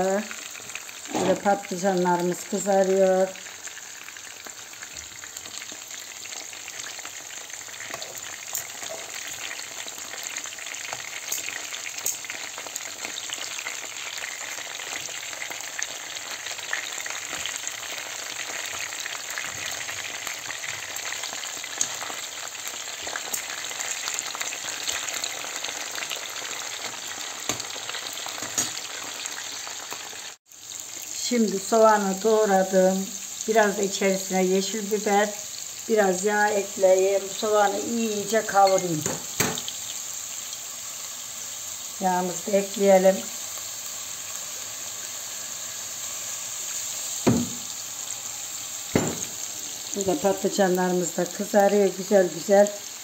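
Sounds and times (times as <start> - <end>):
vegetables frying in hot oil: 0.0 - 53.0.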